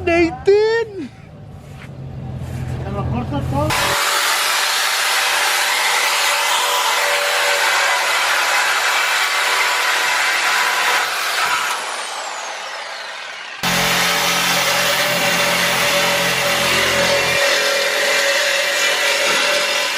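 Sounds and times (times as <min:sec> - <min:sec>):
power tool cutting metal pipe: 0:03.7 - 0:19.9.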